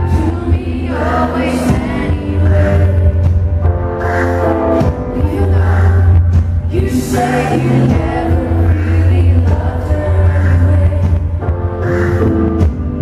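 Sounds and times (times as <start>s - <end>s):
heavy bass line: 0.0s - 13.0s.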